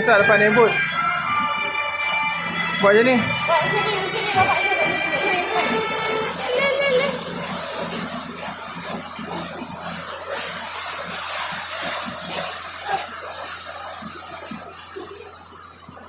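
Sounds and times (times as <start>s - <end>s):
water rushing past boat: 0.0s - 16.0s.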